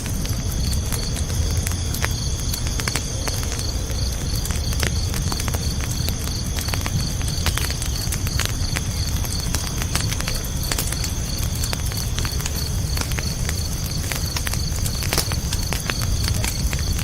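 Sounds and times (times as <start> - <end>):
campfire crackling and popping: 0.0 - 17.0
crickets chirping: 0.0 - 17.0
low rumble of burning fire: 0.0 - 17.0.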